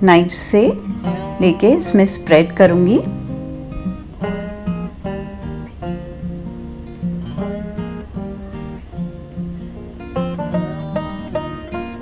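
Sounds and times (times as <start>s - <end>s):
plucked-string tune: 0.0s - 12.0s.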